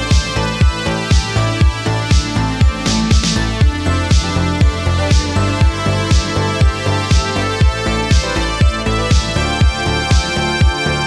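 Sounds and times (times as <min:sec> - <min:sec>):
electronic music: 0:00.0 - 0:11.0
kick drum beat: 0:00.1 - 0:10.8.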